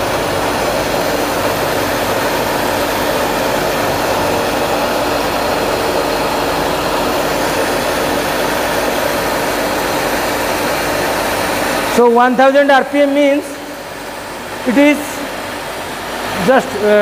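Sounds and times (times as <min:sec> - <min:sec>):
water turbine and pump hum: 0:00.0 - 0:17.0.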